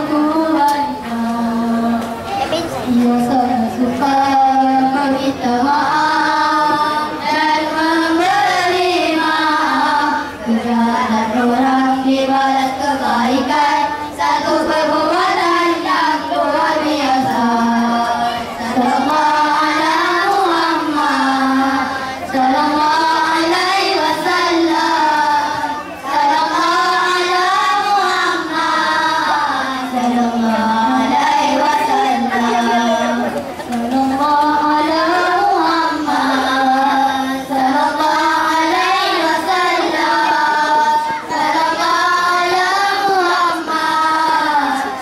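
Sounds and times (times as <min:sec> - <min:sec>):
boys singing together: 0:00.0 - 0:45.0.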